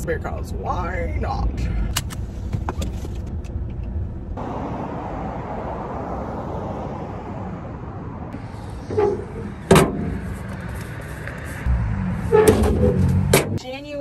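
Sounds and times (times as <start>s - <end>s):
traffic hum: 0.0s - 14.0s.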